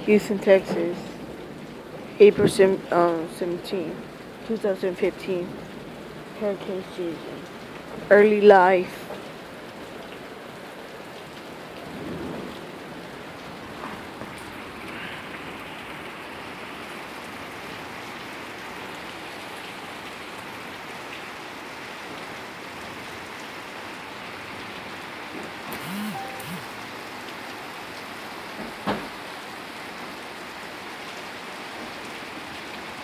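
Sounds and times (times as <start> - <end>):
rain on hard surfaces: 0.0 - 33.0.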